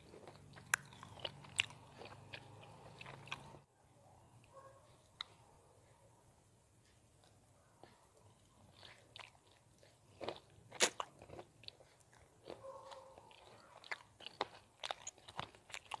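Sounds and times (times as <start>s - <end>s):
mouth chewing food: 0.0s - 3.7s, 6.9s - 16.0s.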